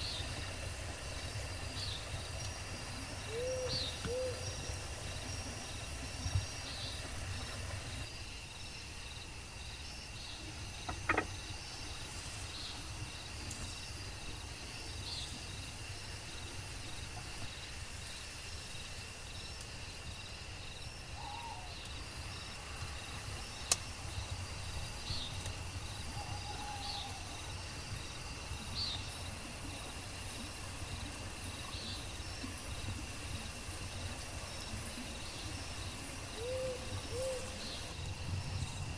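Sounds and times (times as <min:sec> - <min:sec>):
insect chorus drone: 0:00.0 - 0:38.9.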